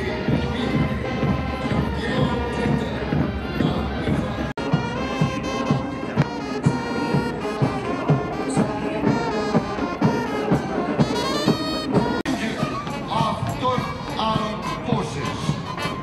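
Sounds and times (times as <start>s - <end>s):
brass playing a march: 0.0s - 16.0s.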